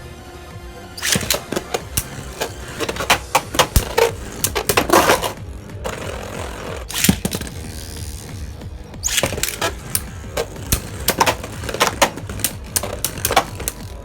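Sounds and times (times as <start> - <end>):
spinning tops clacking: 1.0 - 7.6, 9.0 - 14.0.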